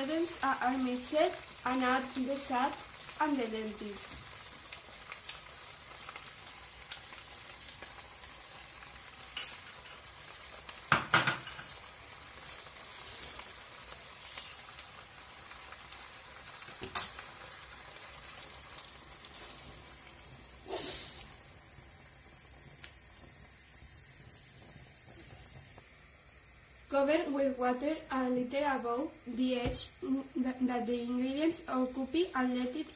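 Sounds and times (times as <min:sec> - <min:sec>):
food sizzling in oil: 0:00.0 - 0:32.9.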